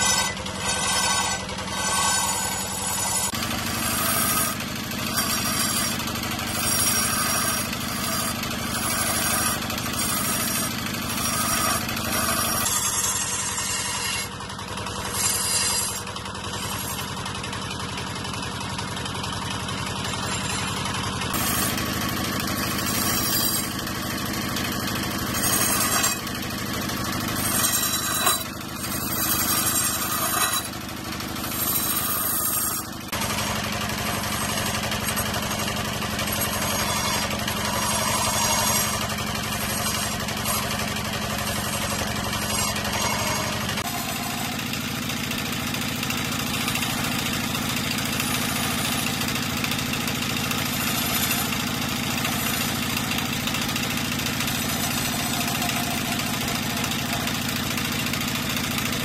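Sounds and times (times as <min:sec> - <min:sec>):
chisel scraping spinning wood: 0:00.0 - 0:59.0
wood lathe motor hum: 0:00.0 - 0:59.0.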